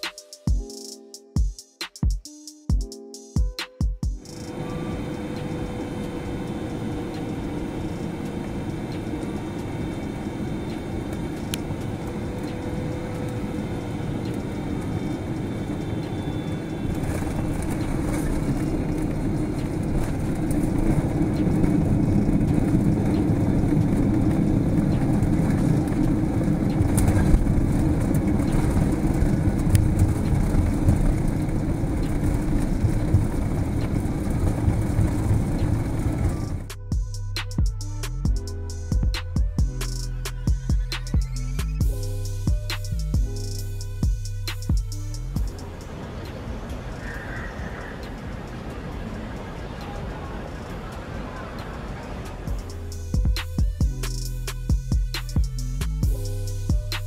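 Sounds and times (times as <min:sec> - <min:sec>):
aircraft cabin engine rush: 0:04.2 - 0:57.0.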